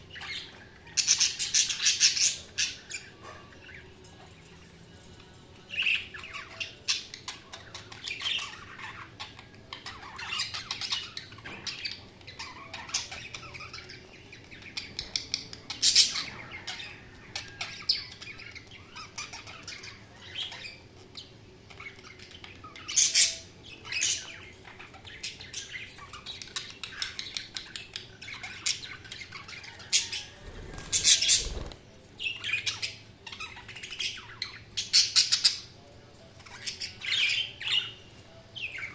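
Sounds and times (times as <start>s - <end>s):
budgerigars chattering and chirping: 0.1s - 3.9s, 5.7s - 35.8s.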